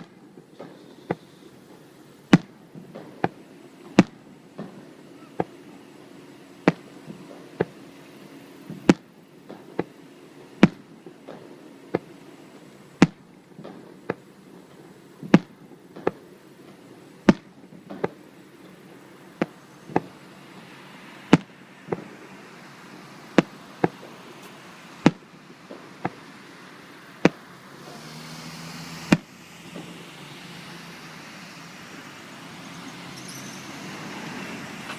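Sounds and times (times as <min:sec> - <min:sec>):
fireworks banging: 0:00.0 - 0:34.9.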